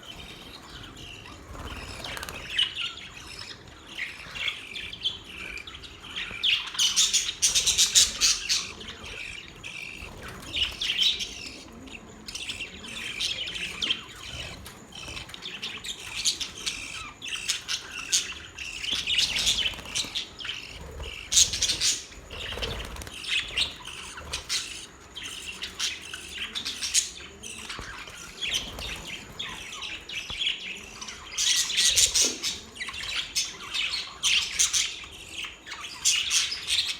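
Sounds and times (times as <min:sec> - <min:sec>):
budgerigars chirping: 0:00.0 - 0:36.9.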